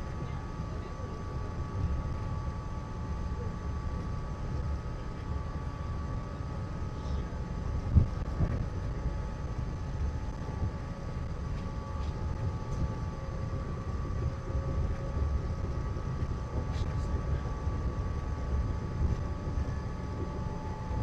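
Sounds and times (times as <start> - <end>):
train low rumble: 0.0 - 21.0.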